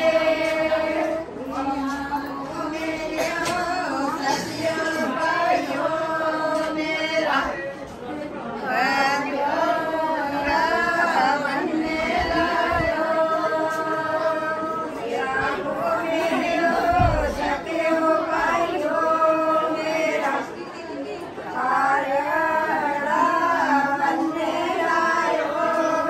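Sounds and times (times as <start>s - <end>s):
women singing in unison: 0.0s - 26.0s.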